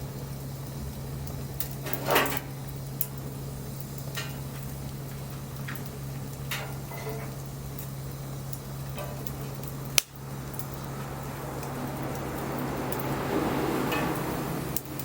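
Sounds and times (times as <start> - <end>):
soft hiss: 0.0 - 15.0
wood fire crackling: 0.0 - 15.0.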